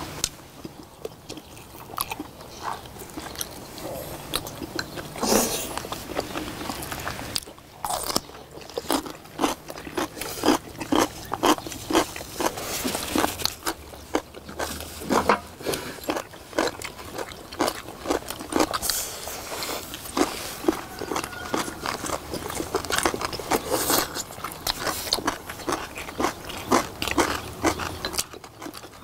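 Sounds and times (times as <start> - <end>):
person chewing and biting: 0.2 - 29.0.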